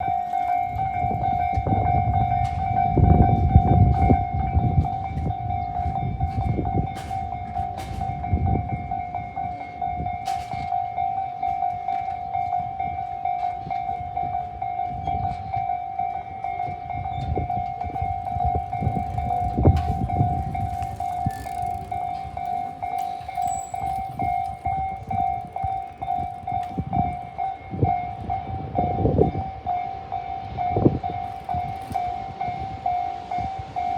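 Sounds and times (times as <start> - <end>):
level-crossing warning bell: 0.0 - 33.9
train wheels clattering on rails: 0.0 - 33.9.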